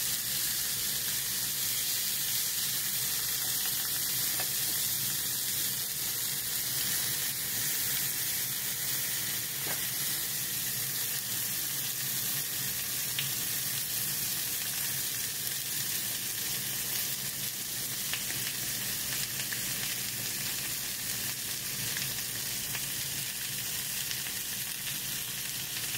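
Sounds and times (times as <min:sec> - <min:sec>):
meat sizzling in oil: 0:00.0 - 0:25.9.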